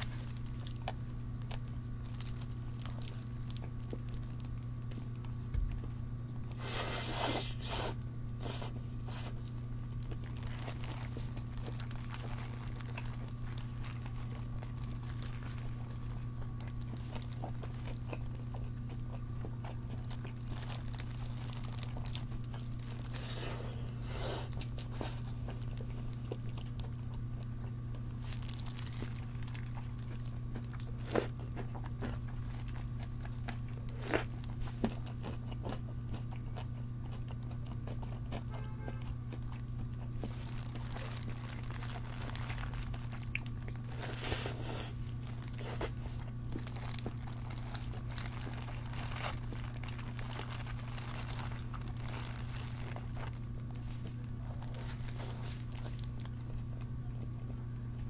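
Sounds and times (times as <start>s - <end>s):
crunching fried chicken: 0.0s - 58.0s
steady low hum: 0.0s - 58.0s.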